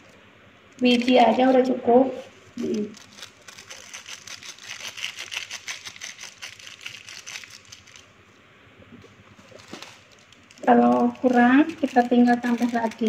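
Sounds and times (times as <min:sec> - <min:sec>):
seasoning sachet crinkling: 0:00.0 - 0:01.6, 0:02.6 - 0:08.2, 0:09.4 - 0:13.0.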